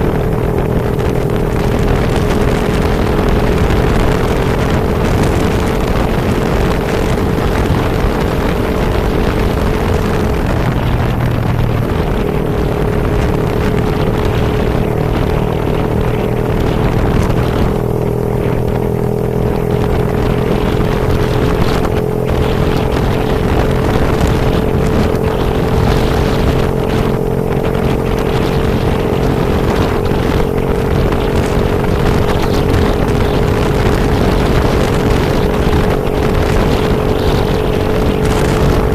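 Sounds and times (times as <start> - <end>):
vehicle engine running: 0.0 - 38.9
wind and rain on microphone: 0.0 - 38.9.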